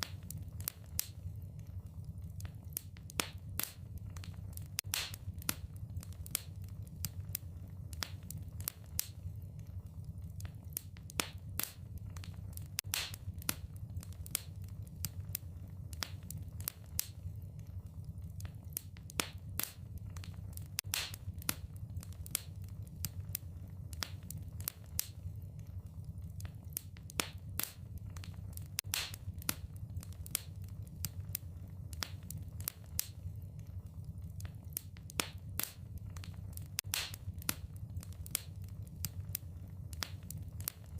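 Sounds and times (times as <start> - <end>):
burning logs popping: 0.0 - 40.9
wood fire crackling: 0.0 - 40.9.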